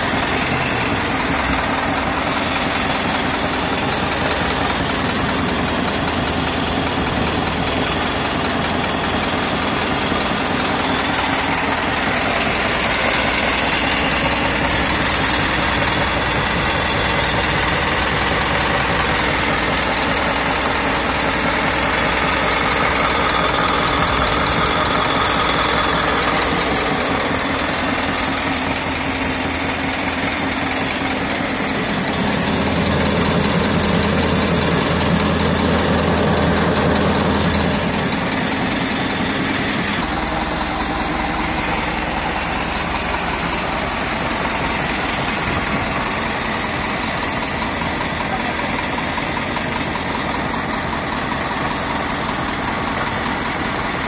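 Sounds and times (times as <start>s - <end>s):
diesel tractor engine idling: 0.0s - 54.0s.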